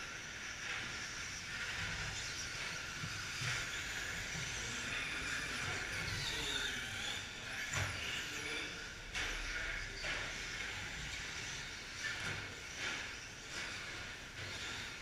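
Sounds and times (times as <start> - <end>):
motor whines: 0.0 - 15.0
rc trucks hissing: 0.0 - 15.0.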